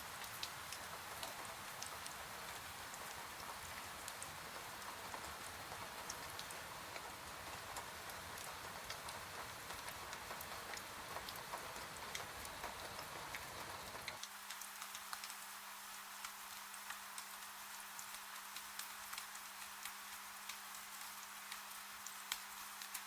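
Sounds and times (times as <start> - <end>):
raindrops ticking on a surface: 0.0 - 23.0
steady rain hiss: 0.0 - 23.0.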